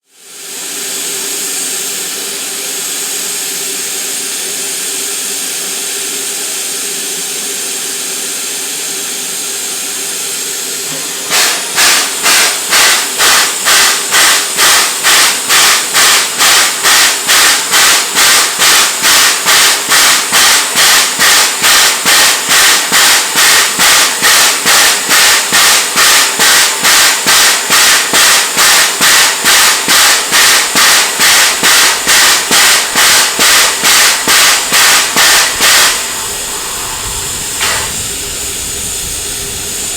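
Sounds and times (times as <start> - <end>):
steam locomotive hissing steam: 0.1 - 39.9
steam locomotive chuffing: 0.2 - 39.9.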